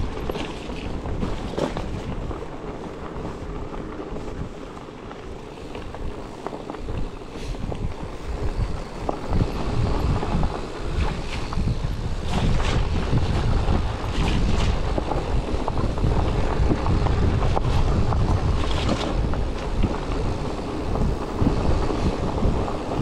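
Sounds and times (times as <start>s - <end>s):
bike clicks and knocks: 0.0s - 23.0s
wind buffeting microphone: 0.0s - 23.0s.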